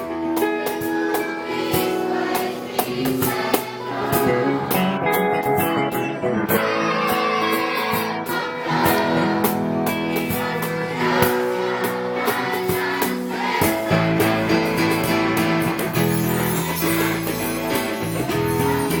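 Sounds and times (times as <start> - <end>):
children's choir singing: 0.0 - 5.1, 6.5 - 14.5, 16.0 - 19.0
percussion beat: 0.0 - 5.8, 7.3 - 19.0
guitar: 0.0 - 19.0.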